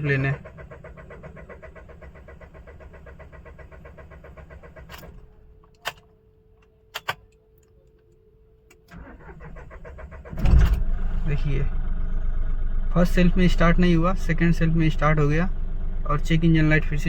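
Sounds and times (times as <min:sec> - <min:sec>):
diesel engine cranking: 0:00.0 - 0:06.0, 0:08.8 - 0:17.0.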